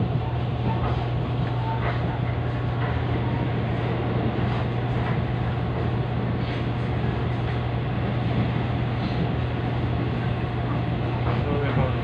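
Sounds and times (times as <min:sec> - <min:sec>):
electric train low hum: 0:00.0 - 0:12.0
rumble of train wheels: 0:00.0 - 0:12.0.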